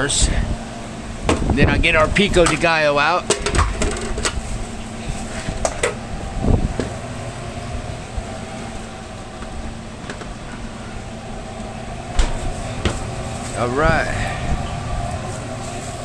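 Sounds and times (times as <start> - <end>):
fans and refrigeration humming: 0.0 - 16.0.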